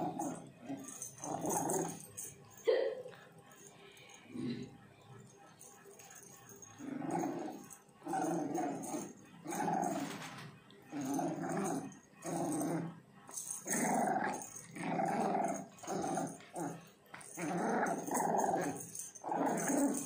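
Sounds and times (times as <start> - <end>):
puppy growling in play: 0.0 - 20.0.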